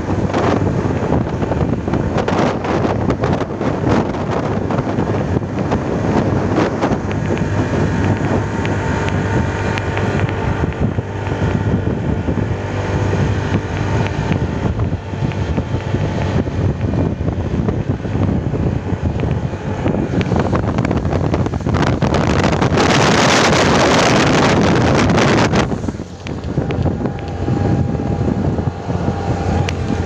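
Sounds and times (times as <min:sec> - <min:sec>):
motorcycle engine cruising: 0:00.0 - 0:30.0
wind noise on microphone: 0:00.0 - 0:30.0.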